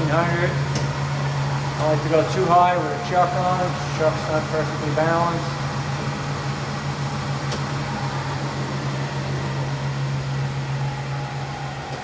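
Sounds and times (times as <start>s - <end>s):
lathe running with low hum: 0.0s - 12.0s.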